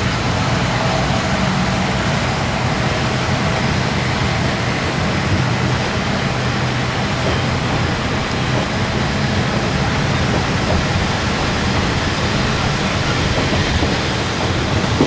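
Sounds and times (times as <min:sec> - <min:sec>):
diesel railcar engine running: 0:00.0 - 0:15.0
train rolling noise: 0:00.0 - 0:15.0.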